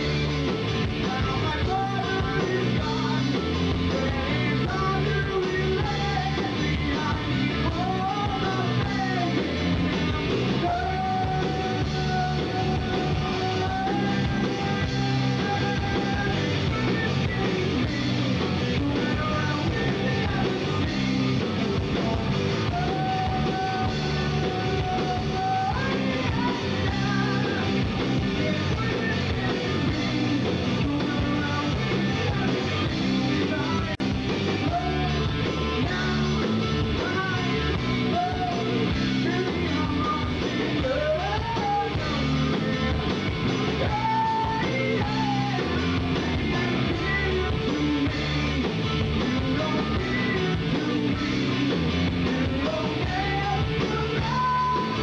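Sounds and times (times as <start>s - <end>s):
drums: 0.0s - 55.0s
electric guitar: 0.0s - 55.0s
person singing: 0.8s - 55.0s.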